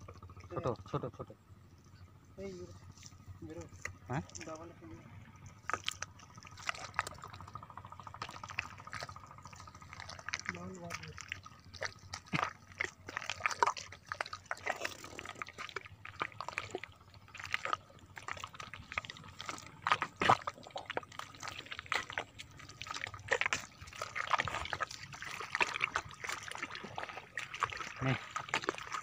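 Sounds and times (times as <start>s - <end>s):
sucking clicks and splats: 0.0s - 29.0s
water sloshing: 0.0s - 29.0s
wet mud squelching: 1.9s - 29.0s.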